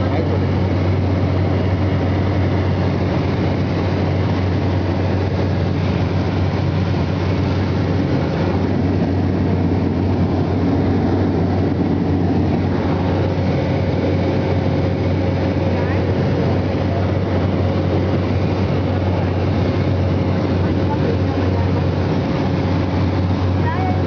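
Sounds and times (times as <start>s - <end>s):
road noise: 0.0s - 24.0s
vehicle engine drone: 0.0s - 24.0s.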